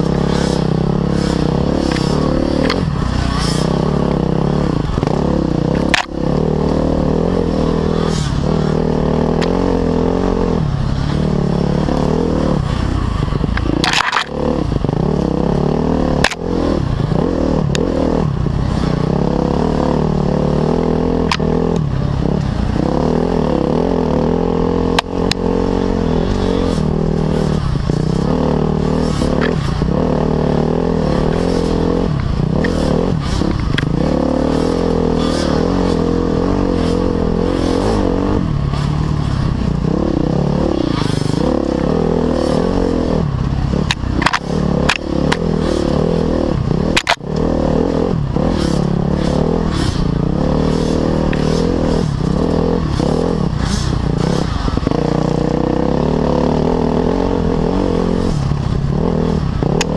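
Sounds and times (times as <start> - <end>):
off-road motorcycle engine revving: 0.0 - 59.9.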